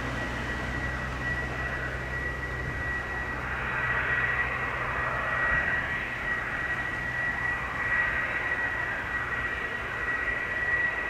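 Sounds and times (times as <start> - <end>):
jet engine rush: 0.0 - 11.0
thin high whine: 0.0 - 11.0.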